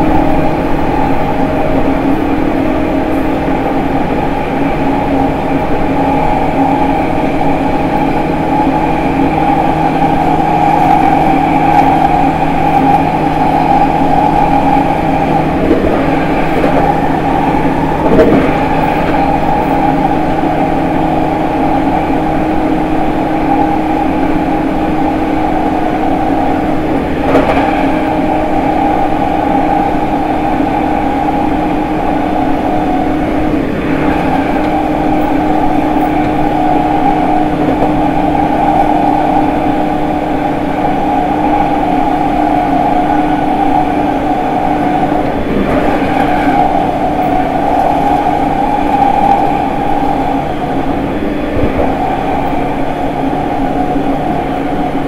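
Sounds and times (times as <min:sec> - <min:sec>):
train motor tones: 0:00.0 - 0:55.0
train rolling noise: 0:00.0 - 0:55.0.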